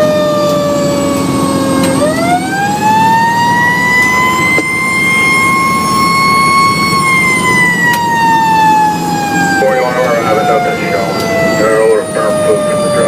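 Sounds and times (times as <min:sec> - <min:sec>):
fire engine siren wailing: 0:00.0 - 0:13.0
truck engine running: 0:00.0 - 0:13.0.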